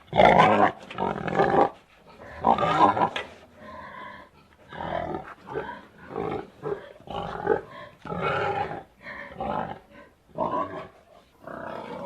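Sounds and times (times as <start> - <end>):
pig grunting and oinking: 0.0 - 12.0.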